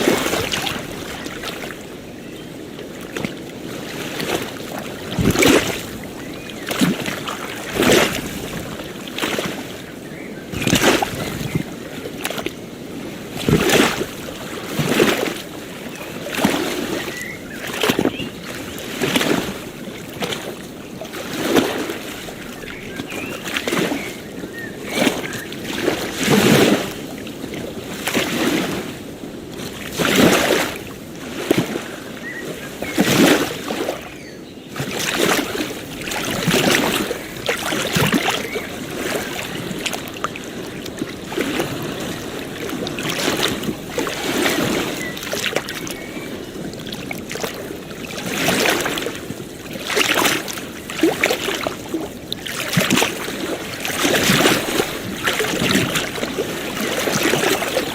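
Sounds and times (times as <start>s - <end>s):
small waves lapping: 0.0s - 57.9s.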